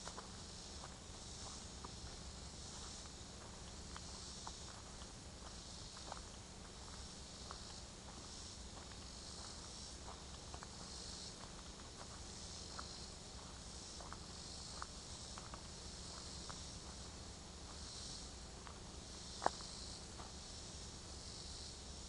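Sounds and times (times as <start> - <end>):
footsteps on dry trail: 0.0 - 20.5
high-pitched insect chorus: 0.0 - 22.0.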